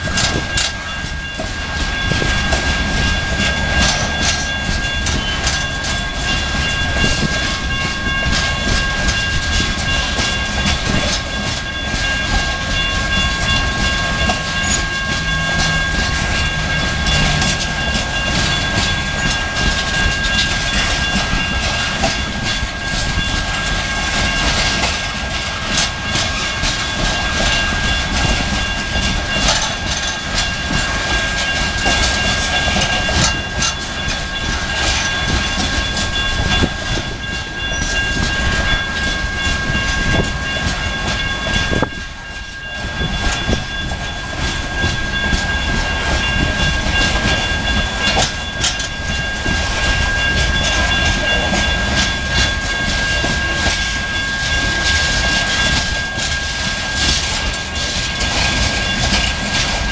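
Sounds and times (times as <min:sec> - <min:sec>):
clickety-clack over rail joints: 0:00.0 - 0:59.9
steady high-pitched tone: 0:00.0 - 0:59.9
train wheels rumbling on rails: 0:00.0 - 0:59.9.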